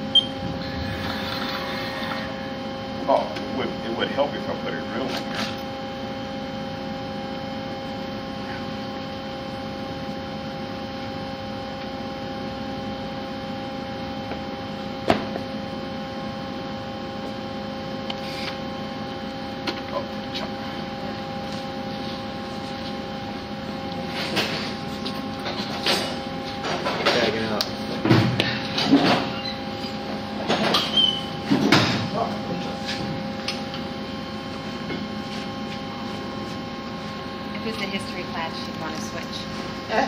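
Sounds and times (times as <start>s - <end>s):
lathe electrical hum: 0.0s - 40.0s.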